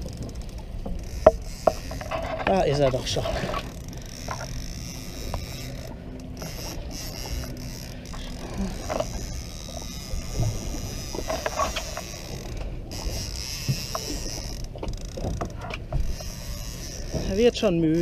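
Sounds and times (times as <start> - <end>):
small boat motor running: 0.0 - 18.0
water noise: 0.0 - 18.0.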